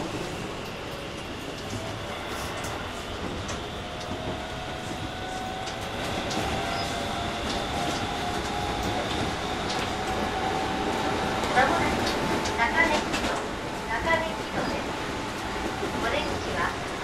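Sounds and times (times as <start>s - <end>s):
rail noise: 0.0s - 17.0s.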